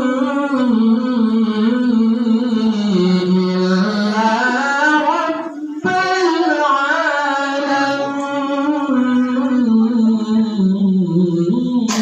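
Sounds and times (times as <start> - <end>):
melodic recitation by one voice: 0.0 - 12.0.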